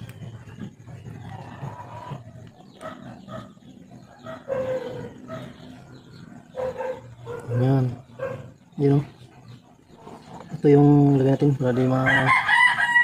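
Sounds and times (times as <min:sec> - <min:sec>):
animal calls: 0:00.0 - 0:13.0.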